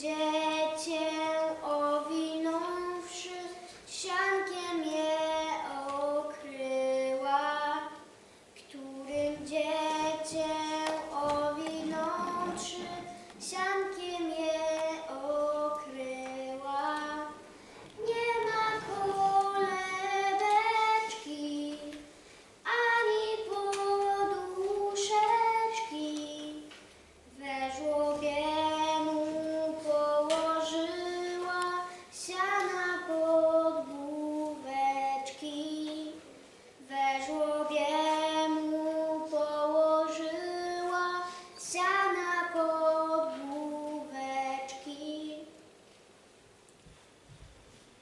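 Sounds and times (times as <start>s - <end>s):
girl singing: 0.0s - 45.6s.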